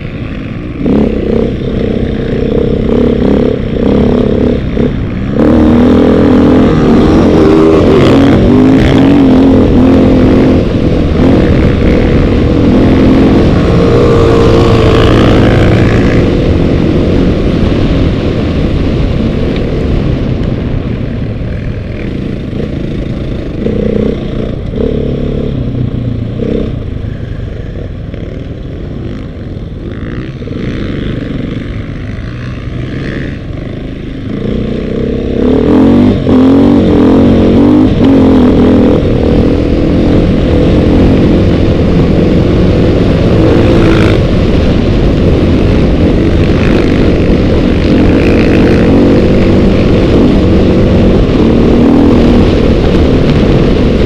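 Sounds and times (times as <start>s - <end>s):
dirt bike engine revving: 0.0s - 19.5s, 21.5s - 25.7s, 27.6s - 54.0s.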